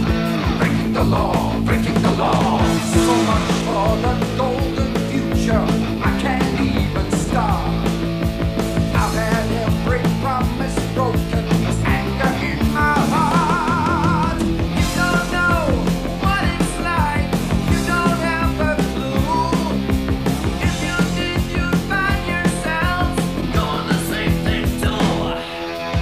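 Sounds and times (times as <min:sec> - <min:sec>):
rock music: 0:00.0 - 0:26.0.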